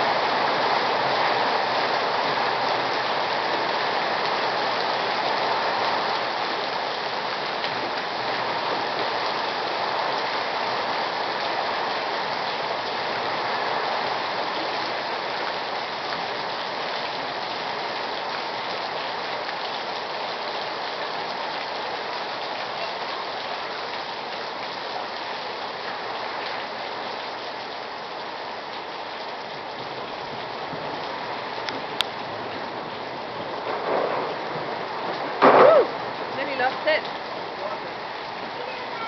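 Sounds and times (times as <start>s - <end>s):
heavy rain on pavement: 0.0s - 39.0s.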